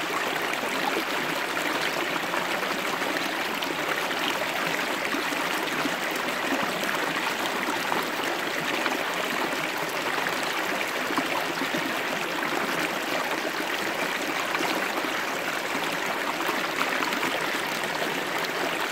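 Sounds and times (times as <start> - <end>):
stream rushing over rocks: 0.0 - 18.9.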